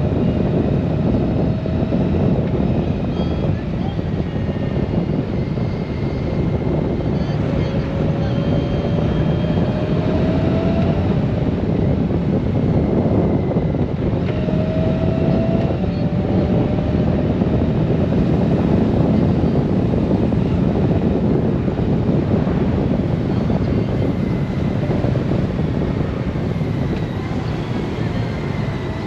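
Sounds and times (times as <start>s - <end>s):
motorcycle engine and tyre noise: 0.0s - 29.0s
wind rushing on microphone: 0.0s - 29.0s.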